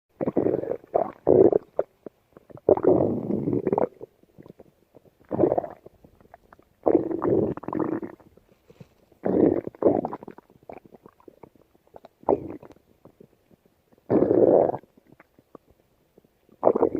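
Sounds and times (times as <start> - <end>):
stomach growling: 0.2 - 16.9.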